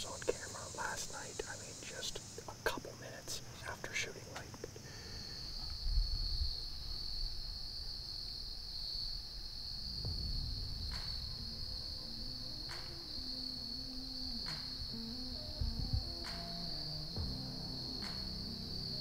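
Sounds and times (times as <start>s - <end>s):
insects singing: 0.0s - 19.0s
low held music tones: 0.0s - 19.0s.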